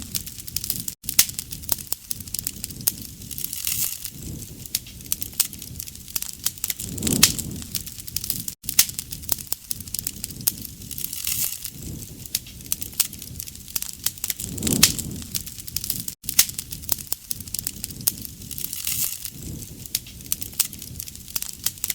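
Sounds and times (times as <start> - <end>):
campfire crackling and popping: 0.0 - 21.9
low rumble of flames: 0.0 - 21.9.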